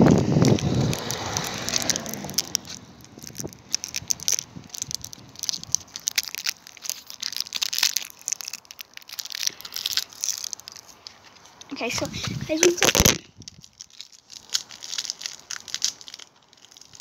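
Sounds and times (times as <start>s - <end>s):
plastic wrapper crinkling: 0.0s - 17.0s.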